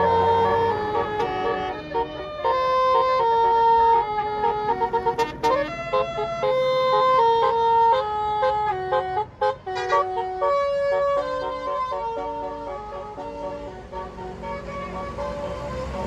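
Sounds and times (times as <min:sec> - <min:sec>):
bus horn playing a melody: 0:00.0 - 0:16.0
low engine rumble: 0:00.0 - 0:16.0.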